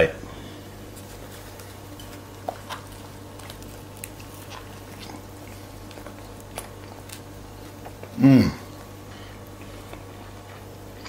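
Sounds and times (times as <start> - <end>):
steady low hum: 0.0 - 11.0
person chewing a burger: 0.8 - 11.0.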